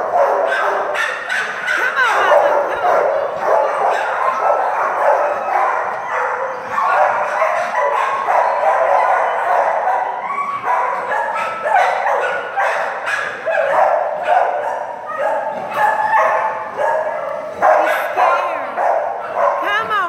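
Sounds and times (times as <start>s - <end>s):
many dogs barking and yelping: 0.0s - 20.0s.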